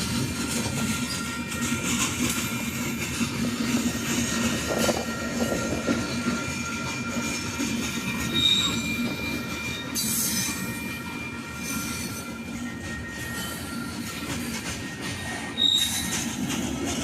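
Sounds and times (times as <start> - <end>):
freight train rumbling on rails: 0.0 - 17.0
train wheel squeal: 0.0 - 17.0.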